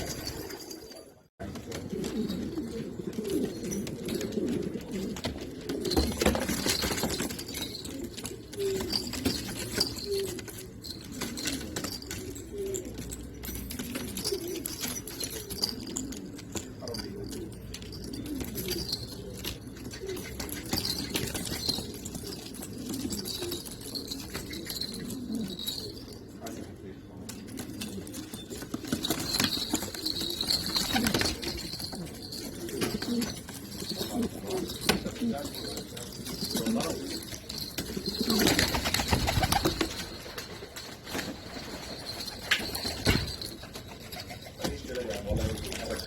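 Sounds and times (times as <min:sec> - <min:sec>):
pigeons cooing: 0:00.0 - 0:46.0.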